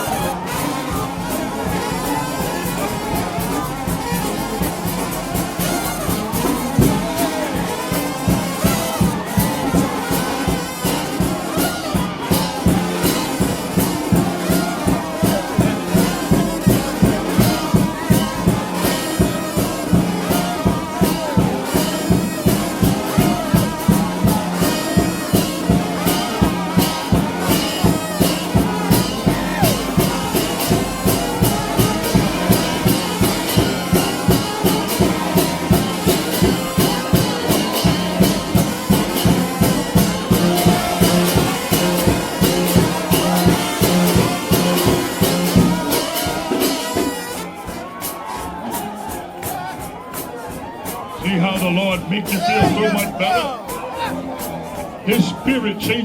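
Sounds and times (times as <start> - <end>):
brass horns holding chord: 0.0 - 47.5
fast drum beat: 0.0 - 56.0.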